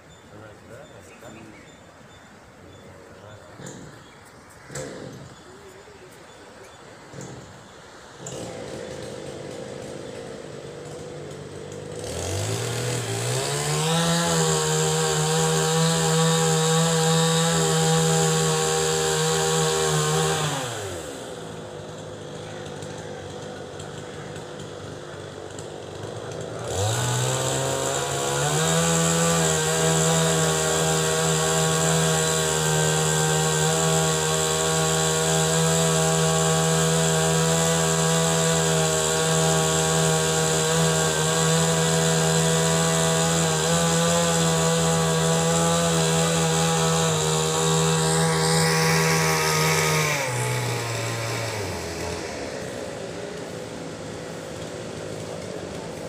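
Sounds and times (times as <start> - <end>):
small engine running: 3.2 - 5.5, 7.0 - 56.0.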